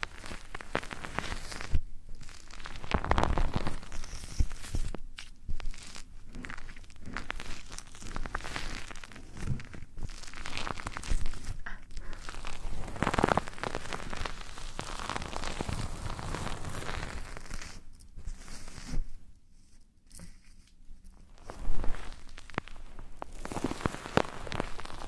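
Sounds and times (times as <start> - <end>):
ear rubbing on microphone: 0.0 - 25.0.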